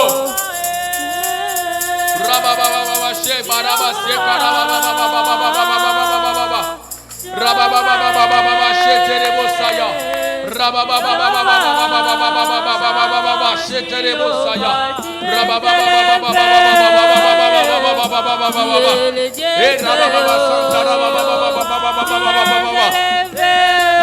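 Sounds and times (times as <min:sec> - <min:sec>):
voices singing worship songs: 0:00.0 - 0:24.0.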